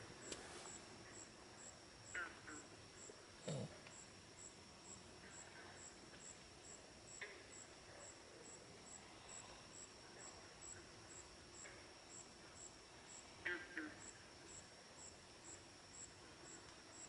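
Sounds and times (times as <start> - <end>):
crickets trilling: 0.0 - 17.0
insect chirping: 0.0 - 17.0.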